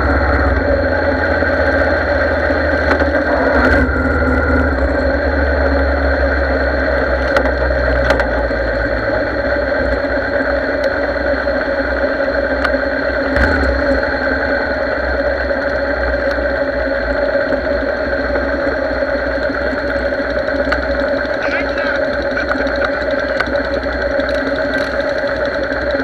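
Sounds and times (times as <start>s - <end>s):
motorcycle engine running: 0.0s - 26.0s
other motorcycle engines: 0.0s - 26.0s.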